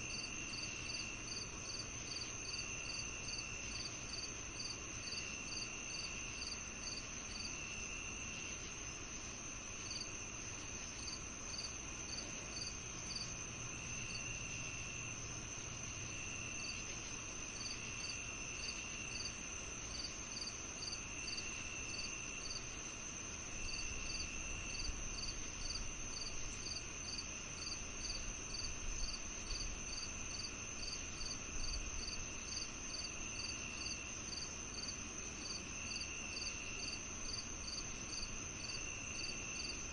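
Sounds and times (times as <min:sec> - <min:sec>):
lower insect trill: 0:00.0 - 0:39.9
regular cricket chirping: 0:00.0 - 0:39.9
steady high insect trill: 0:00.0 - 0:39.9.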